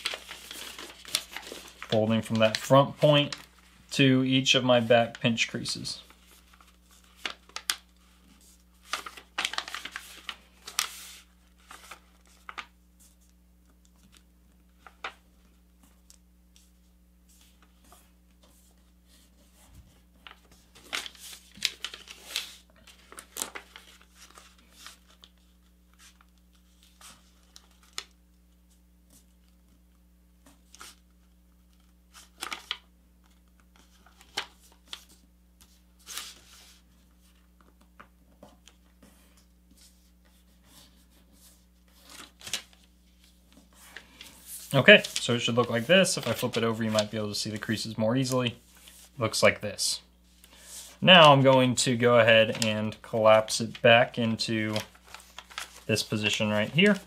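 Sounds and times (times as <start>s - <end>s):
paper rustling and crinkling: 0.0s - 14.2s, 14.8s - 29.8s, 30.4s - 49.4s, 50.2s - 57.0s.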